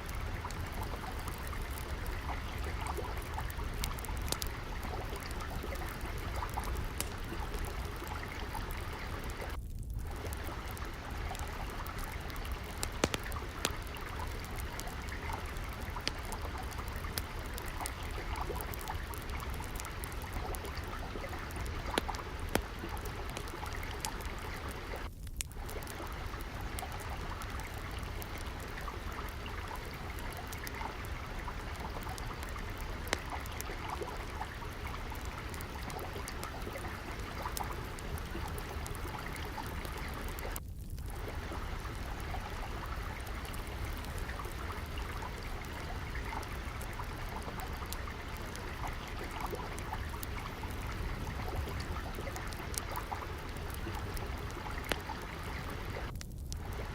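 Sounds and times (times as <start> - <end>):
stream water flowing: 0.0 - 56.9
wood fire crackling: 0.0 - 56.9.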